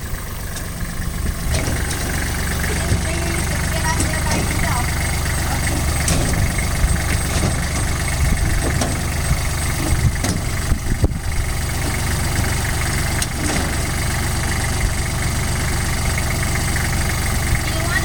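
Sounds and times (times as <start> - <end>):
engine idling: 0.0 - 18.0
knocks and clanks: 0.5 - 17.2.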